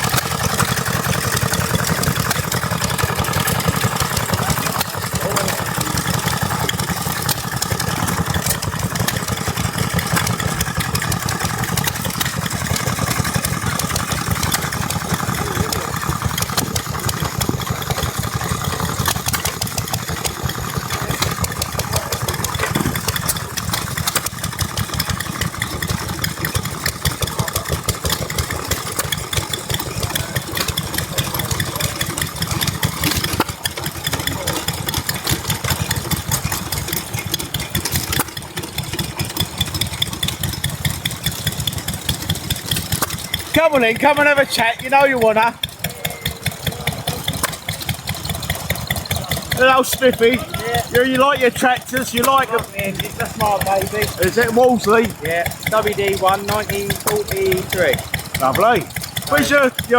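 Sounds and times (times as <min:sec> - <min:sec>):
stationary engine idling: 0:00.0 - 0:59.9.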